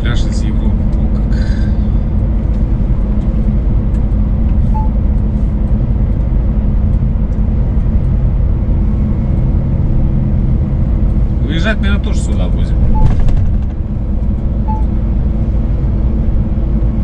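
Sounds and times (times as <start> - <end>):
road noise: 0.0 - 17.0
truck diesel engine running: 0.0 - 17.0.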